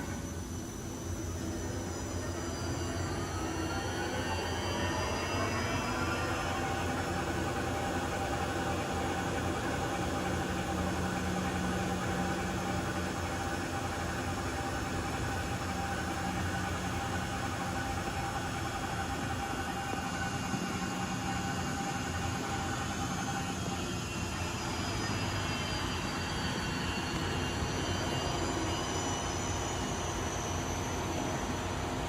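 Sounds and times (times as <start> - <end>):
lathe high whine: 0.0 - 32.0
lathe mechanical hum: 0.0 - 32.0.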